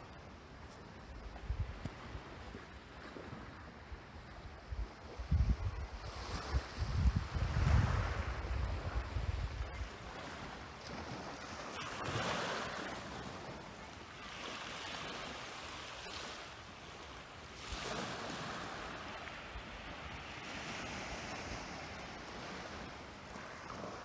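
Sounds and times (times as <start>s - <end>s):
small waves on a pebble shore: 1.9s - 24.0s.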